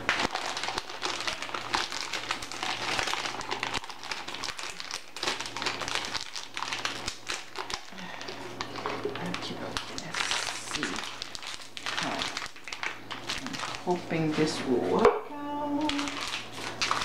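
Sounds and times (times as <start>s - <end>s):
plastic bag crinkling: 0.0s - 15.0s, 15.6s - 17.0s.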